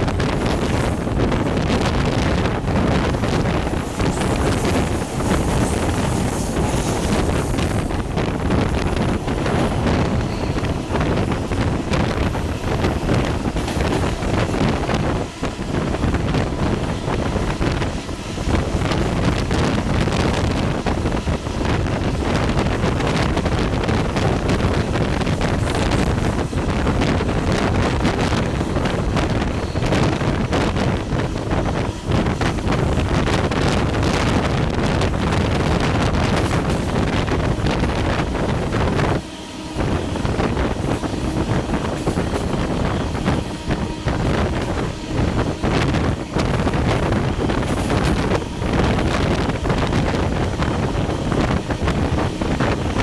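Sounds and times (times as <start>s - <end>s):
moving passenger train: 0.0s - 53.0s
wind buffeting microphone: 0.0s - 53.0s.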